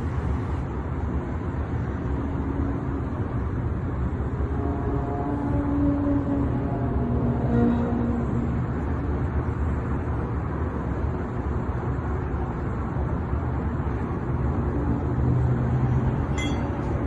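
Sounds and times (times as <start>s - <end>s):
low droning hum with rumble: 0.0s - 17.0s.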